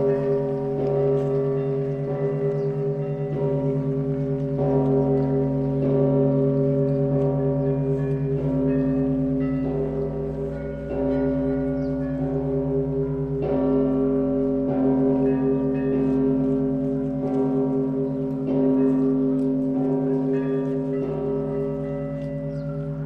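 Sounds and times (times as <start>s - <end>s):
church bells ringing a peal: 0.0s - 23.0s
low hum of a large bell: 0.0s - 23.0s.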